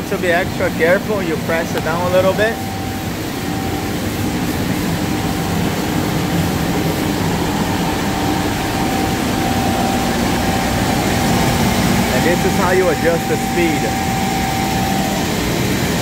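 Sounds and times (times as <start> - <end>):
vacuum pump and dust collector drone: 0.0 - 16.0.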